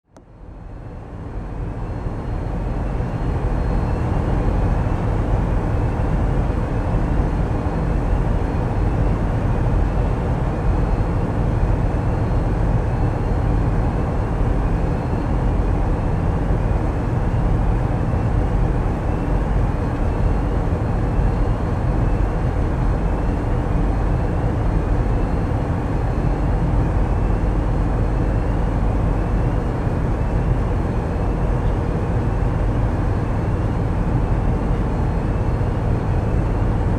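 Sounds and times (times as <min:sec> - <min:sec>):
diesel engines droning: 0:00.2 - 0:36.9.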